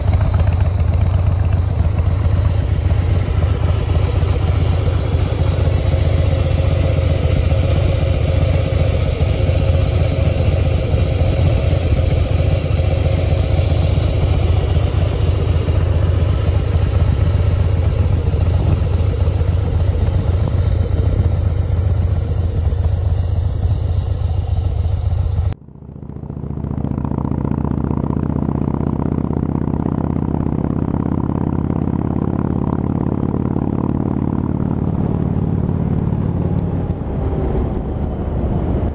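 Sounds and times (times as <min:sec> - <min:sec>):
dull motorcycle engine hum: 0:00.0 - 0:38.9
motorcycle engine rumbling: 0:00.0 - 0:38.9.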